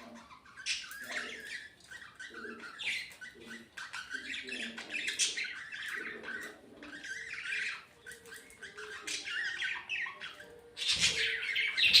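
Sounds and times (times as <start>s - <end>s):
budgerigars chattering and squawking: 0.0s - 12.0s.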